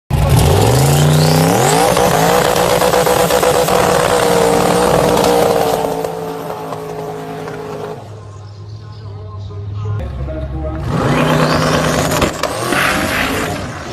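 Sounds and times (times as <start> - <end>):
car engine revving: 0.1 - 8.4, 10.0 - 13.9.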